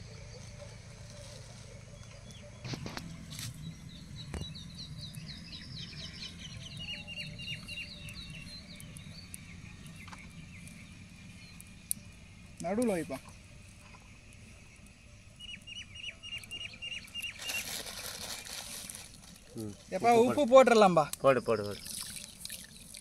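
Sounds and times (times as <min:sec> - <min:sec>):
small bird chirping: 0:00.0 - 0:20.4, 0:21.1 - 0:23.0.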